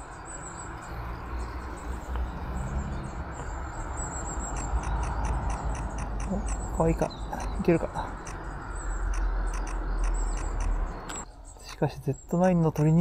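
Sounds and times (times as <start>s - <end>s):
high calls of small birds: 0.0s - 13.0s.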